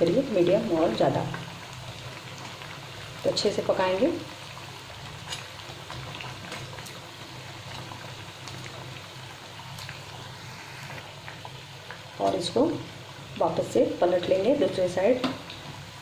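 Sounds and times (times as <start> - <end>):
food sizzling in hot oil: 0.0 - 16.0
oil popping and crackling: 0.0 - 16.0.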